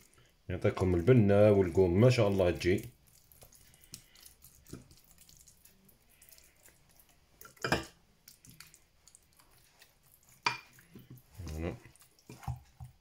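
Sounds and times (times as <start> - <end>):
brush dabbing wet marinade: 0.0 - 13.0.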